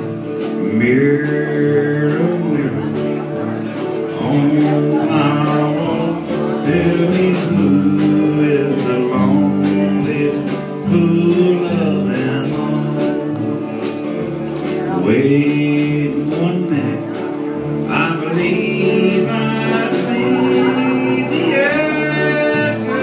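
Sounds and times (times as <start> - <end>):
country band playing: 0.0 - 23.0
electric guitar: 0.0 - 23.0.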